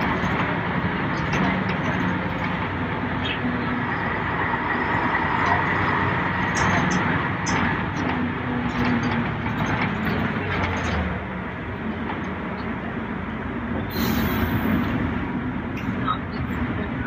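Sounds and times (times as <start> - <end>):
bus engine running: 0.0 - 17.0
road rumble: 0.0 - 17.0.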